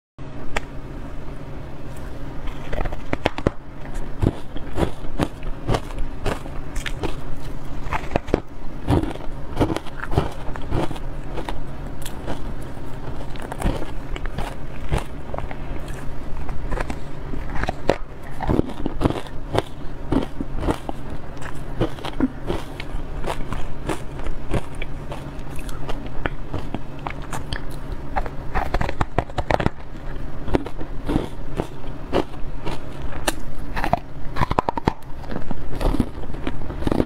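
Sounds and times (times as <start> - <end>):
low steady hum: 0.2 - 37.0.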